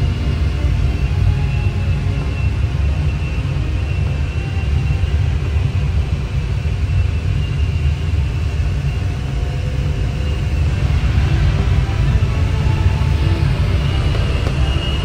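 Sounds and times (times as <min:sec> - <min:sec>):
faint high whistle: 0:00.0 - 0:15.0.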